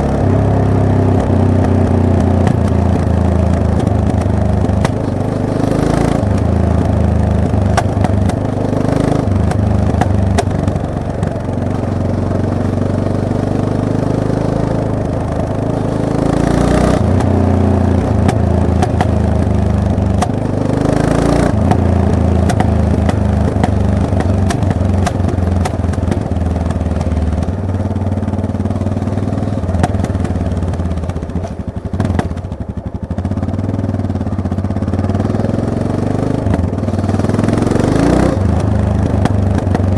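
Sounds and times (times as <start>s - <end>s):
knocks and clatter: 0.0s - 33.8s, 34.4s - 39.9s
motorcycle engine revving: 0.0s - 39.9s.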